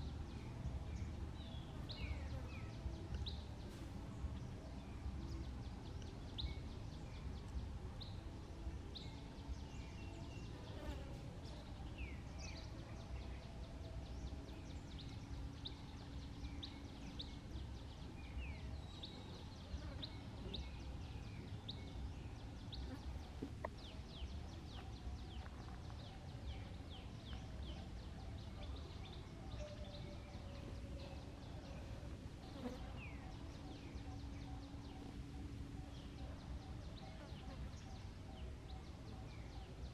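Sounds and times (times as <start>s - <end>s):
faint hum: 0.0s - 39.9s
small birds chirping: 0.0s - 39.9s.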